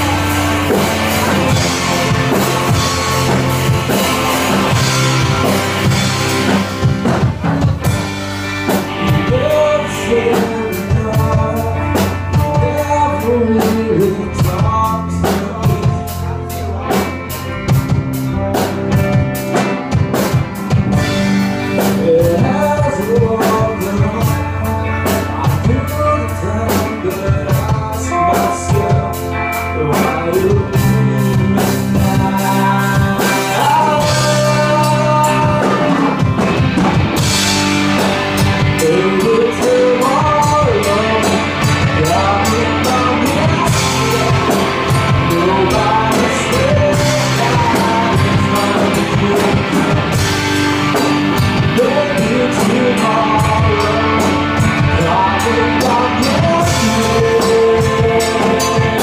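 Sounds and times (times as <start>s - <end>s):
bass guitar: 0.0s - 59.0s
drum kit beat: 0.0s - 59.0s
electric guitars: 0.0s - 59.0s
person singing: 0.0s - 59.0s.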